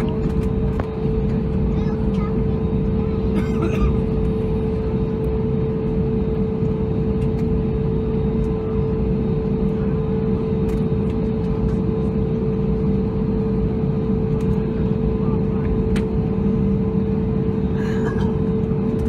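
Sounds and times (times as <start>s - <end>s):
jet engines idling from cabin: 0.0s - 19.0s.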